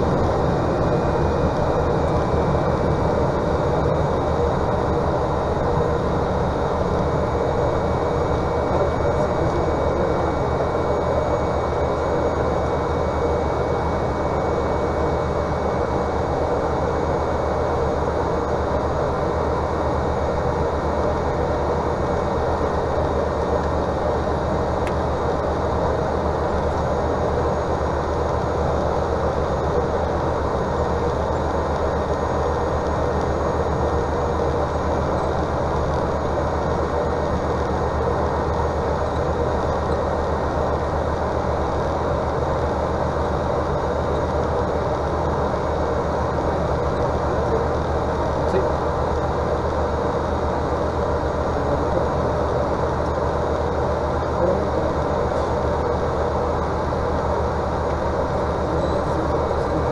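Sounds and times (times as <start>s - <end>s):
turboprop engine and propeller: 0.0s - 59.9s.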